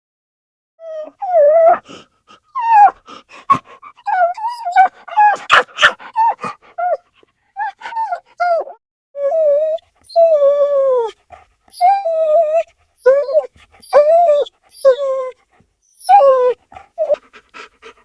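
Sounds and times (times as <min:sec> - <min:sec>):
dog whining: 0:00.8 - 0:15.4, 0:16.0 - 0:18.0.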